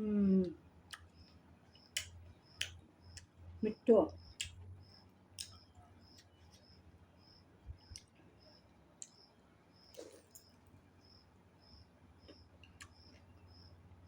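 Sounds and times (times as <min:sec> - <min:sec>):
soft chewing crunch: 0:00.2 - 0:09.2, 0:09.9 - 0:10.8, 0:12.2 - 0:13.9.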